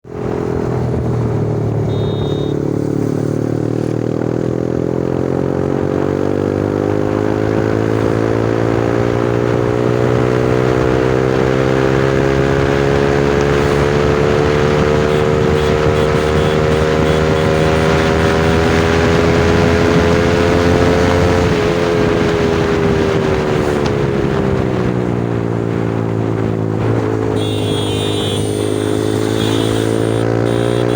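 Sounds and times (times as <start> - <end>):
motorcycle engine revving: 0.3 - 24.9, 25.6 - 30.9.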